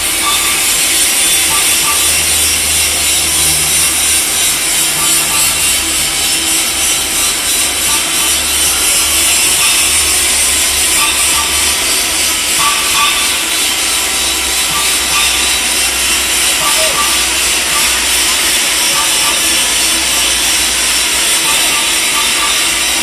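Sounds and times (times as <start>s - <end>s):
welding arc crackling and hissing: 0.0s - 23.0s.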